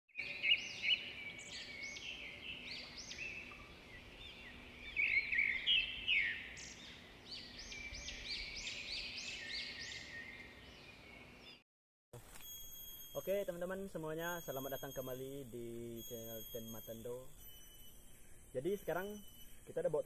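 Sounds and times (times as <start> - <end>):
birds chirping and singing: 0.2 - 11.6, 13.2 - 20.0.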